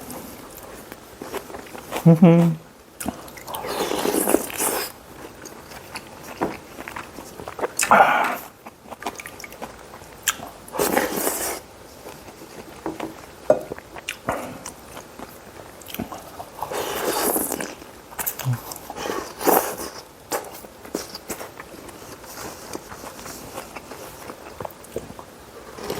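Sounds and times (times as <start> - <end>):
person chewing and biting food: 0.6 - 25.2.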